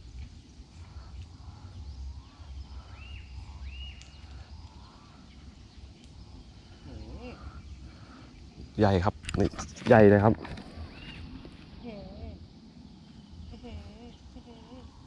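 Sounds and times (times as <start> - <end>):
birds calling: 0.0 - 15.0
wind rumble on microphone: 0.0 - 15.0.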